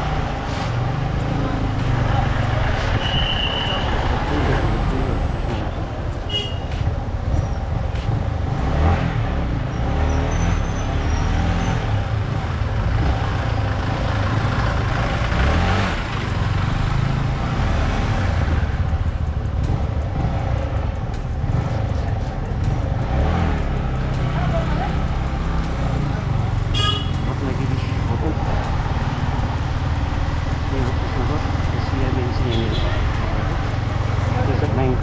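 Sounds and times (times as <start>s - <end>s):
road noise: 0.0s - 35.0s.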